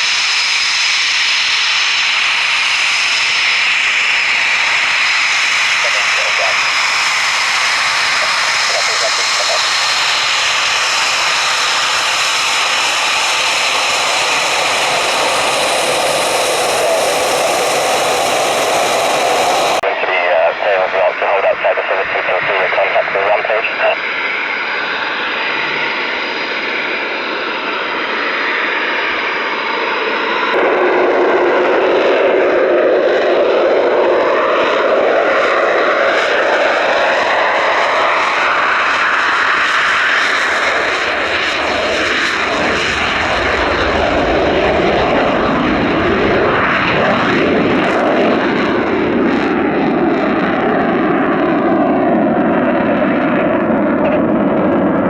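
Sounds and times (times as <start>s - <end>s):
jet engine noise: 0.0s - 55.0s.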